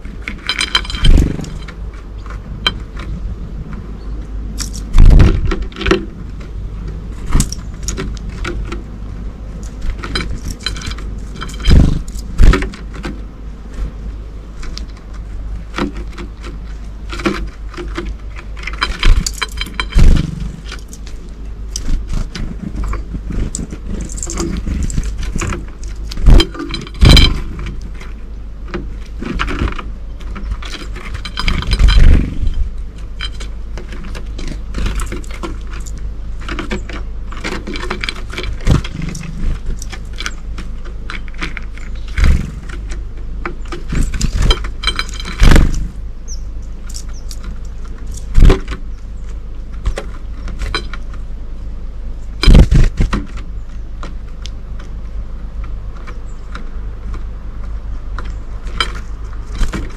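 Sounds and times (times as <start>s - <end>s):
birds pecking and clicking: 0.0s - 59.9s.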